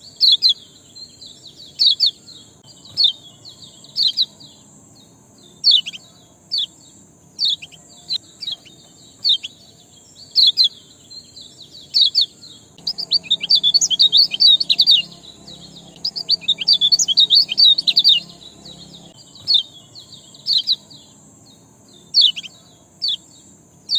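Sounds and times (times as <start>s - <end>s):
small songbird chirping: 0.0s - 23.9s
steady high-pitched hiss: 0.0s - 23.9s.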